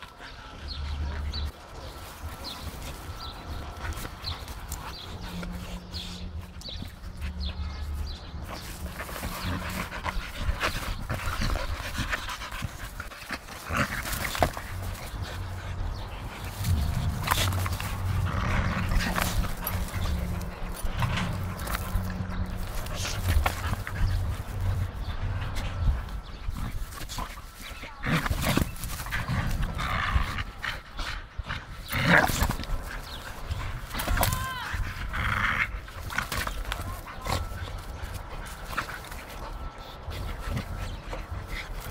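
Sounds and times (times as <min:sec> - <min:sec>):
dogs panting: 0:00.0 - 0:41.9.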